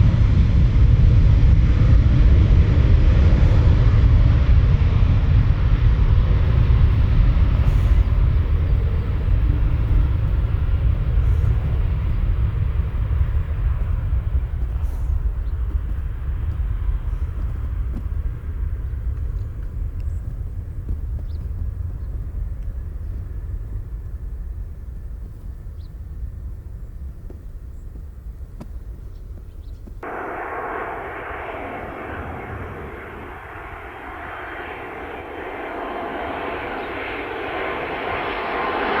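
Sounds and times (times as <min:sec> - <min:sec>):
jet engines rumbling: 0:00.0 - 0:39.0
thinner aircraft engine noise: 0:00.0 - 0:39.0.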